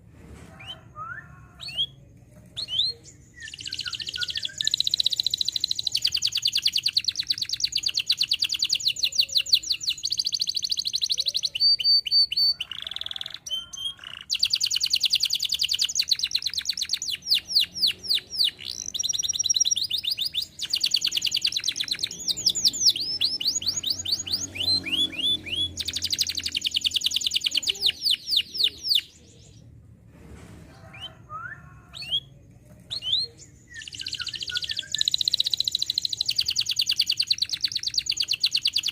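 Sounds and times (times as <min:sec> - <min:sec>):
canary singing trills: 0:00.6 - 0:29.7, 0:31.0 - 0:38.9.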